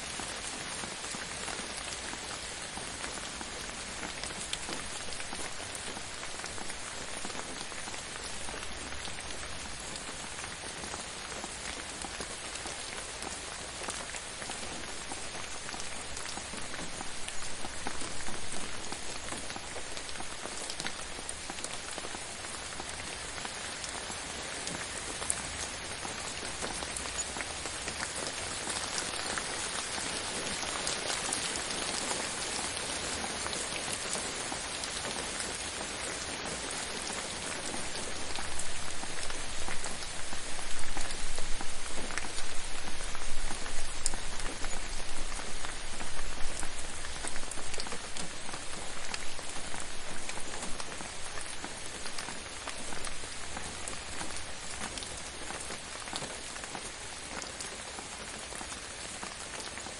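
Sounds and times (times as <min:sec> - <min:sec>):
gentle rain falling: 0:00.0 - 0:59.9
raindrops ticking: 0:00.3 - 0:59.7.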